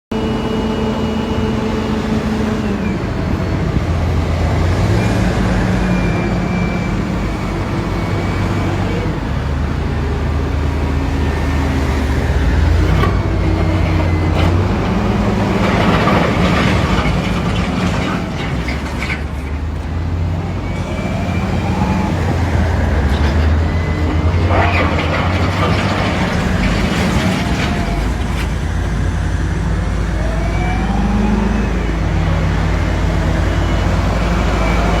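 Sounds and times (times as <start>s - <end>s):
diesel construction machinery revving: 0.1s - 35.0s.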